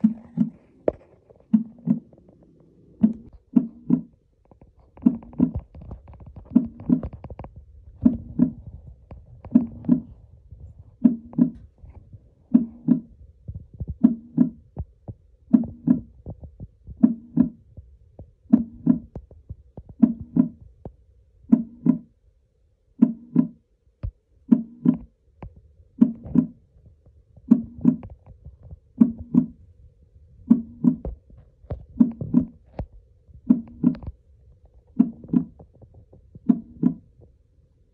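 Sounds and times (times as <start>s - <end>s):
heartbeat double thumps: 0.0s - 2.2s, 3.0s - 4.2s, 5.0s - 22.1s, 23.0s - 25.1s, 26.0s - 34.2s, 34.8s - 37.2s.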